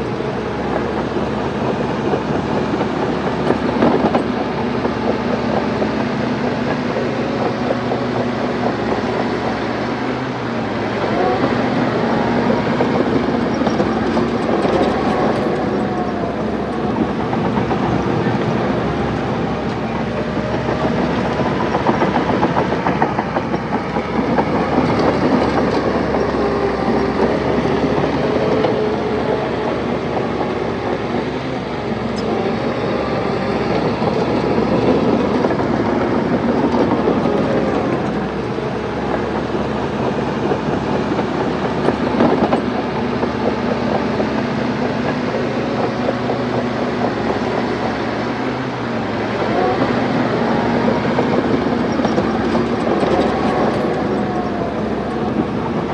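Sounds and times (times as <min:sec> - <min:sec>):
bulldozer diesel engine: 0:00.0 - 0:55.9
steel tracks clattering: 0:00.0 - 0:55.9.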